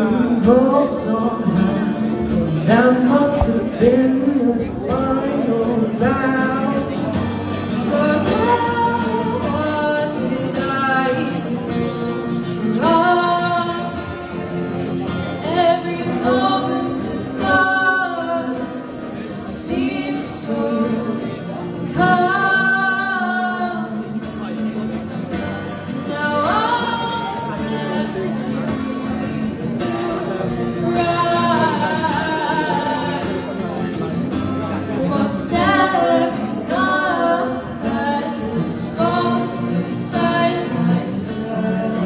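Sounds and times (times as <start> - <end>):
woman singing into microphone: 0.0 - 24.5, 25.9 - 33.9, 34.9 - 42.0
strummed guitar: 0.0 - 42.0.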